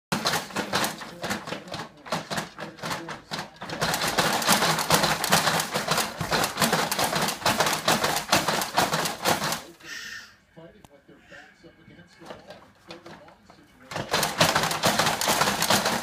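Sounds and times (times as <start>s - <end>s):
plastic baby jumper rattling: 0.1s - 9.8s, 12.2s - 16.0s.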